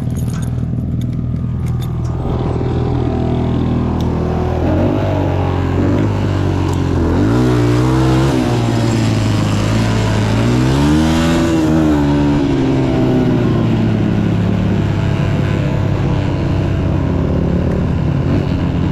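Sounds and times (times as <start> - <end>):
motocross bike engine revving: 1.4 - 18.9.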